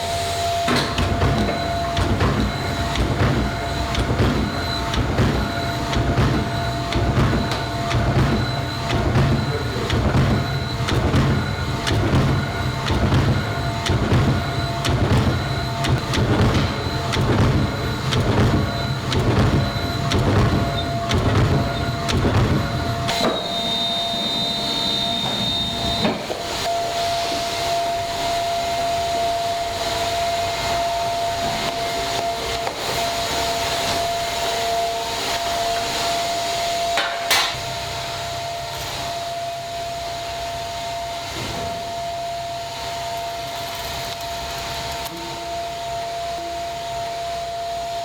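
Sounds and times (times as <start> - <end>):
factory machinery running: 0.0 - 48.0.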